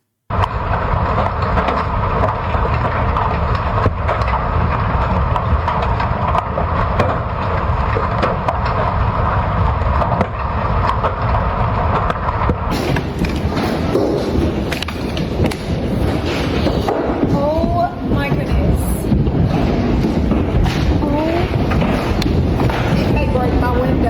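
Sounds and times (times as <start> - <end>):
heavy hail clattering: 0.3 - 24.0.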